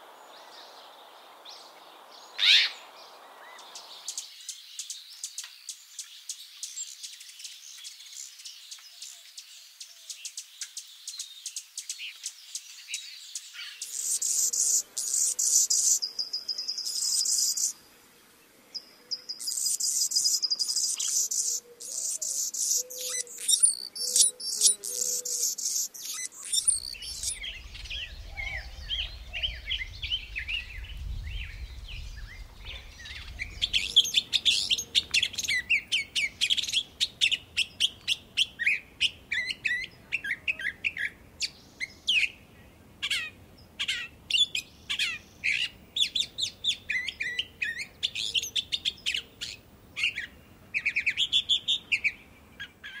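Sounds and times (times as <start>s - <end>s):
songbirds chirping and singing: 0.0s - 17.8s, 18.7s - 53.0s.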